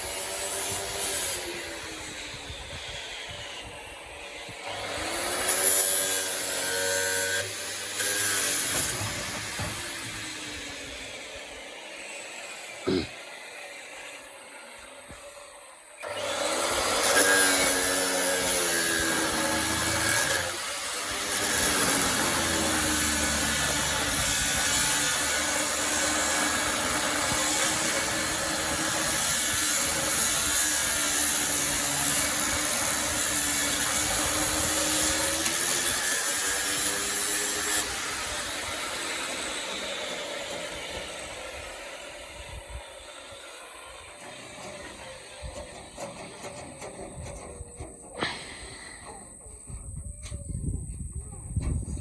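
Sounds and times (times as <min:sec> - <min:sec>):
electric power tool running: 0:00.0 - 0:46.1.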